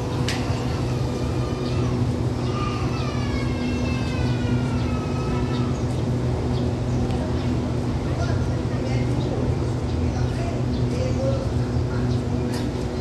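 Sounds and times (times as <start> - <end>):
train engines humming: 0.0 - 13.0.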